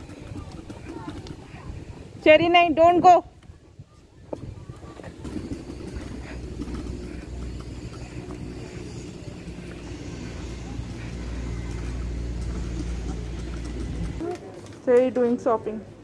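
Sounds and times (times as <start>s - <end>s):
scooter wheels rolling on paving: 0.0s - 16.0s.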